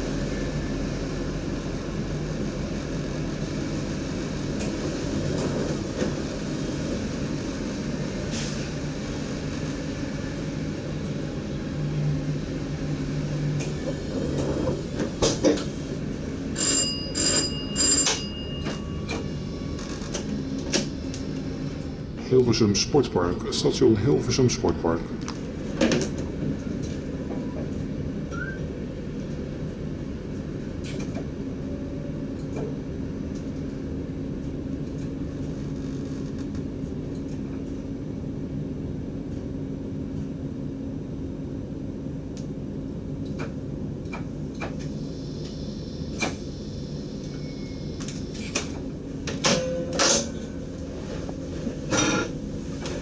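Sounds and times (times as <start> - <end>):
electric train hum: 0.0 - 53.0.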